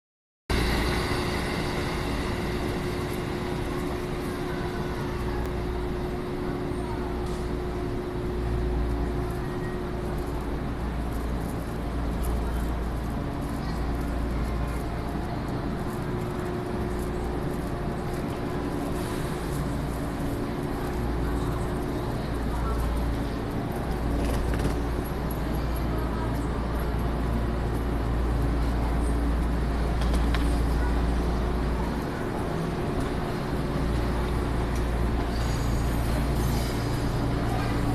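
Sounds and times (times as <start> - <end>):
electric train rumbling: 0.5 - 37.9.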